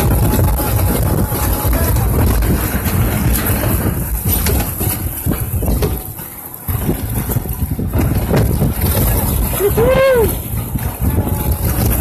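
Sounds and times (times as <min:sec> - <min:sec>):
rush of water: 0:00.0 - 0:12.0.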